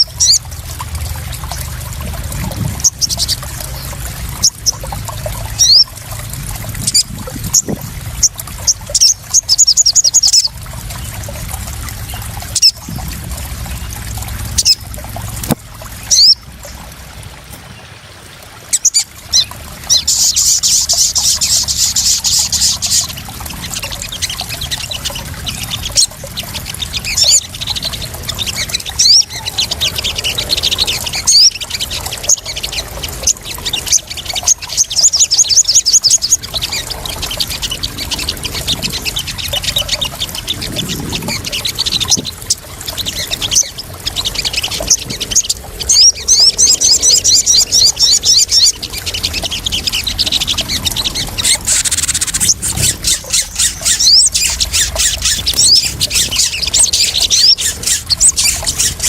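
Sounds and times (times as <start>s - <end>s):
birds chittering: 0.0s - 17.9s, 18.6s - 59.0s
splashing water: 0.0s - 59.0s.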